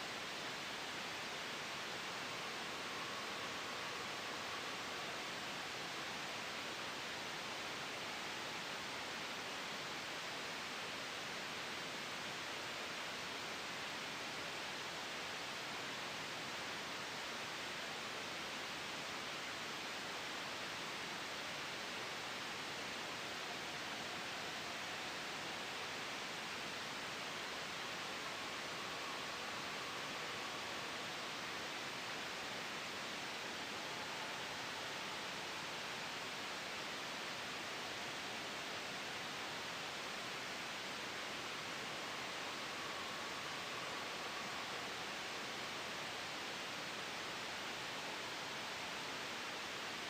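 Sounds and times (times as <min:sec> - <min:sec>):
white noise hiss: 0:00.0 - 0:50.0.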